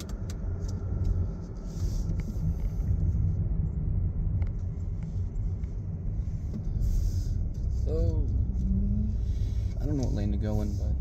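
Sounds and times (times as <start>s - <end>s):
car cabin engine and tyre drone: 0.0s - 11.0s.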